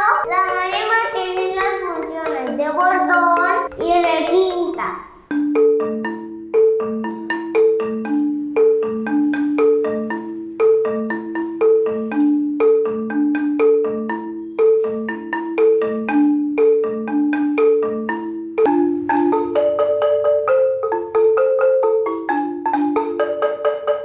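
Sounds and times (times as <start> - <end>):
marimba playing repeating figure: 0.0 - 24.0.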